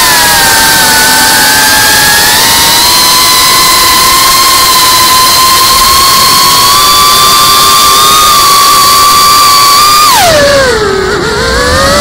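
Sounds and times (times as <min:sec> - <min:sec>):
drone motors whining: 0:00.0 - 0:12.0.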